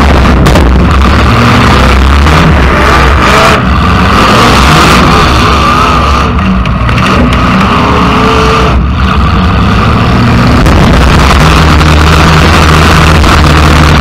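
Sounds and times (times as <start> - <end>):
loud car engine revving: 0.0 - 14.0.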